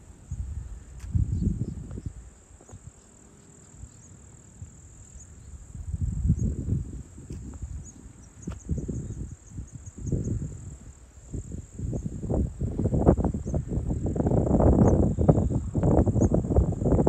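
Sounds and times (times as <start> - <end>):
wind buffeting microphone: 0.0 - 3.0, 3.8 - 17.0
insects droning: 0.0 - 17.0.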